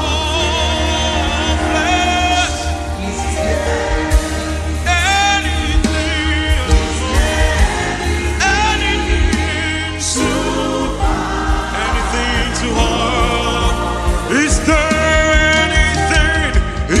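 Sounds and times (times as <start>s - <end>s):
band accompaniment with low bass: 0.0s - 17.0s.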